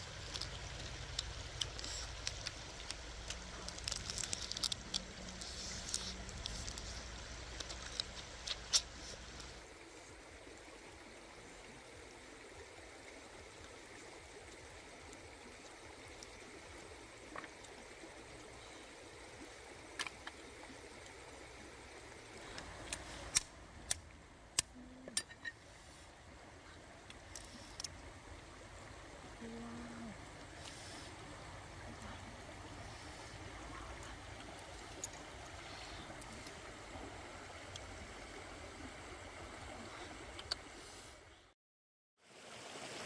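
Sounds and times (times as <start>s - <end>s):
flowing water rushing: 0.0s - 41.4s, 42.2s - 43.0s.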